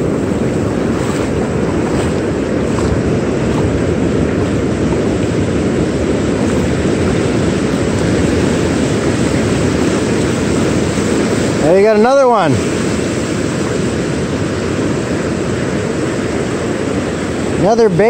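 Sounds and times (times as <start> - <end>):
breaking surf: 0.0 - 18.0
wind rumble on microphone: 0.0 - 18.0.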